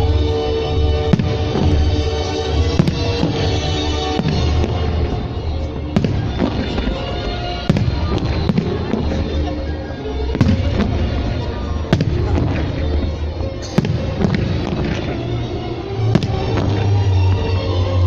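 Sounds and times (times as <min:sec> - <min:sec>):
music playing: 0:00.0 - 0:18.0.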